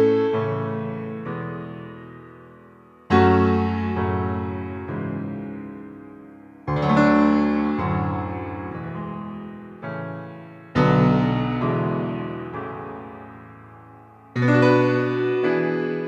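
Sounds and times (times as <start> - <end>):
synthetic piano chords ringing: 3.1 - 16.0.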